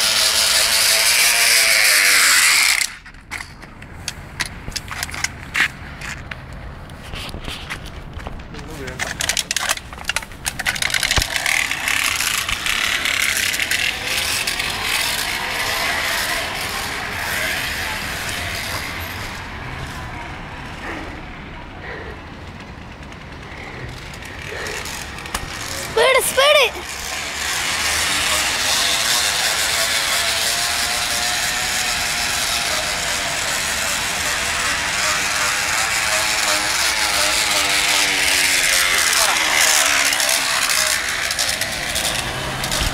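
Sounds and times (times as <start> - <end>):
bicycle rattling buzz: 0.0 - 3.6, 8.8 - 42.9.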